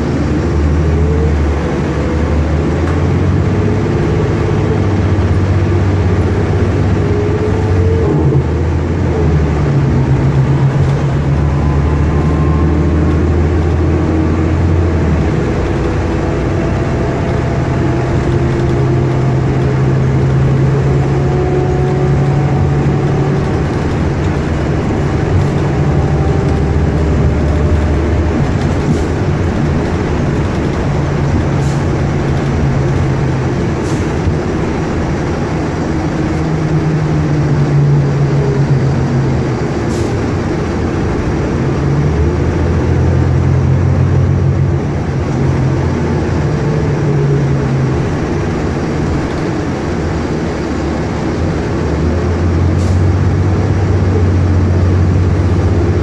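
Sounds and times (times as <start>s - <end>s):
bus engine running: 0.0s - 56.0s
faint engine whine: 0.0s - 56.0s.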